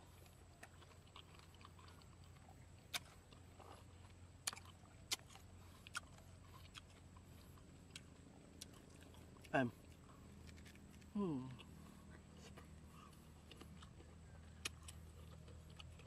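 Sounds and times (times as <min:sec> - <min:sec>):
chewing crisp fruit: 0:00.0 - 0:16.0.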